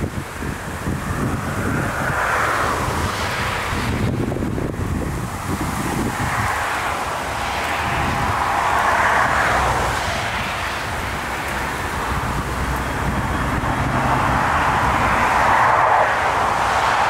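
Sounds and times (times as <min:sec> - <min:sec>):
jet engines rushing: 0:00.0 - 0:17.0
wind rumble on microphone: 0:00.0 - 0:17.0.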